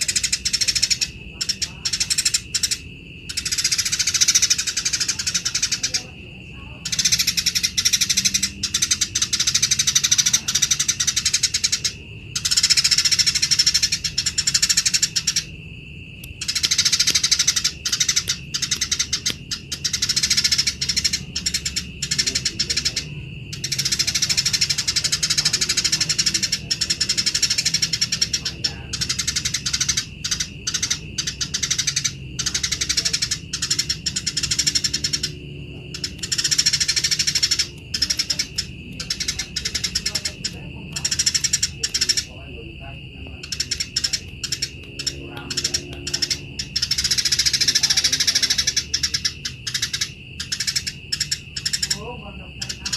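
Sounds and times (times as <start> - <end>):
sparrows chattering: 0.0 - 52.9.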